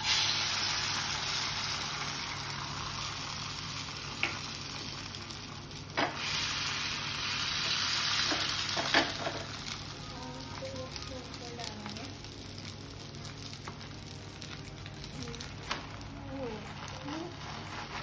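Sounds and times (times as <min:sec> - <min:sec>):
egg sizzling in hot oil: 0:00.0 - 0:16.3.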